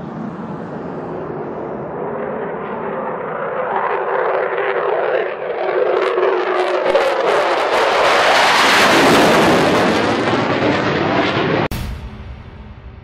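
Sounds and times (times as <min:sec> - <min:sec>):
jet engine roaring overhead: 0:00.0 - 0:11.8.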